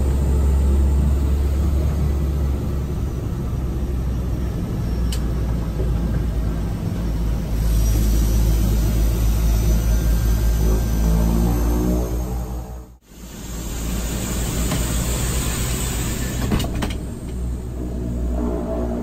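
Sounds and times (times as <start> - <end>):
low rumble of turboprops: 0.0 - 19.0.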